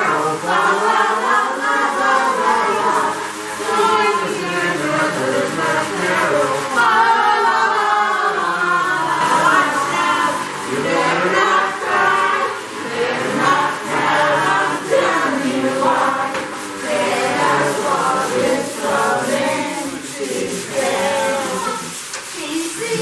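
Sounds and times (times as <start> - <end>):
choral singing: 0.0 - 23.0.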